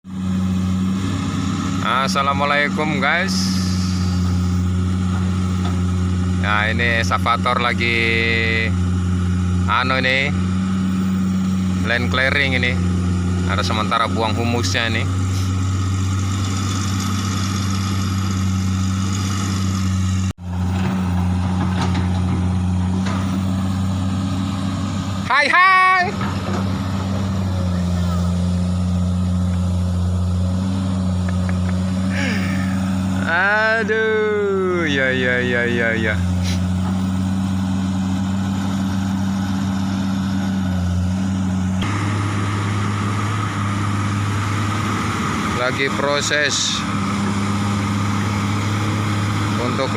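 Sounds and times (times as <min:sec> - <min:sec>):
excavator diesel engine droning: 0:00.0 - 0:49.9.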